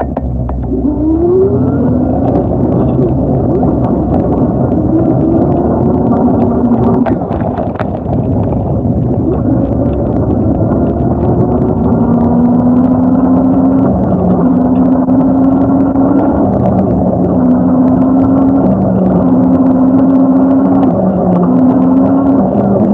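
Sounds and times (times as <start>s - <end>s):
traffic rumble with engine hum: 0.0s - 22.9s.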